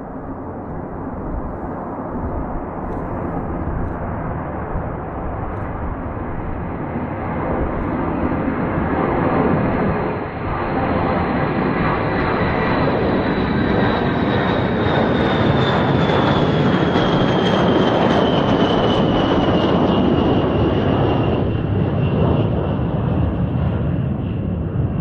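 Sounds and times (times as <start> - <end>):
jet engines roaring with high whine: 0.0 - 25.0.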